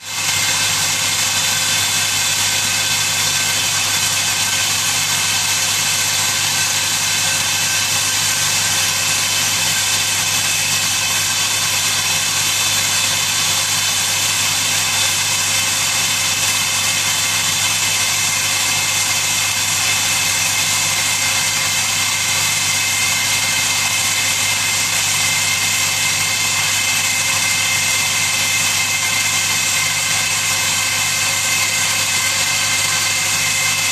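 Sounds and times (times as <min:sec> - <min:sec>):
high-pitched machine whine: 0:00.0 - 0:33.9.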